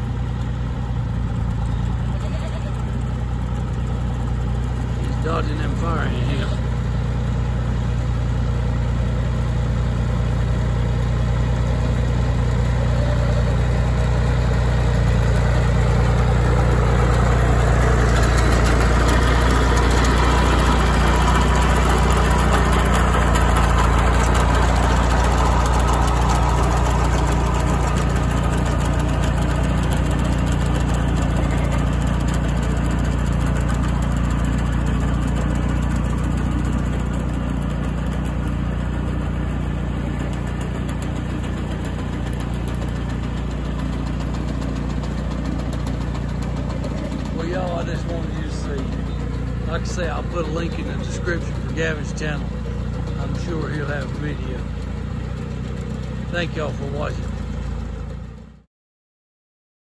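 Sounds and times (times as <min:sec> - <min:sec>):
tractor engine running: 0:00.0 - 0:58.6.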